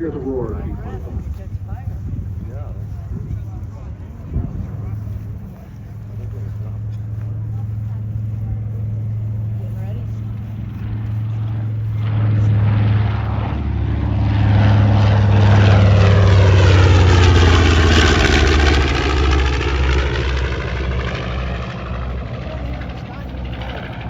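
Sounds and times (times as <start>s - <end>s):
propeller plane engines droning: 0.0s - 24.0s.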